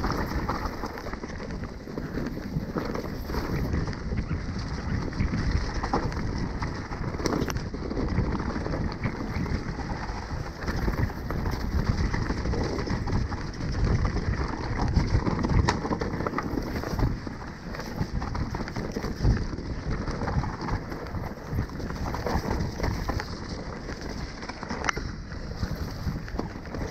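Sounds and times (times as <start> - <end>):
bike rattling over bumps: 0.0 - 26.9
tyres rolling over leaves: 0.0 - 26.9.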